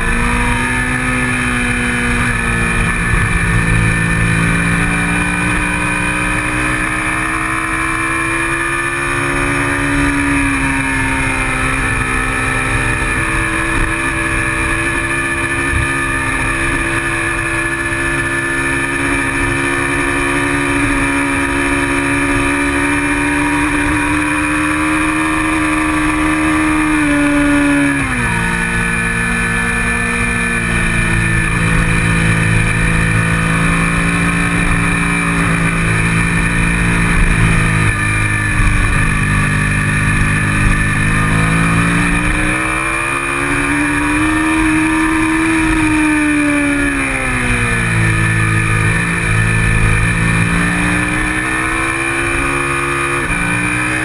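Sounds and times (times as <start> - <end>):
low wind rumble: 0.0 - 52.6
motorcycle engine revving: 0.0 - 54.0.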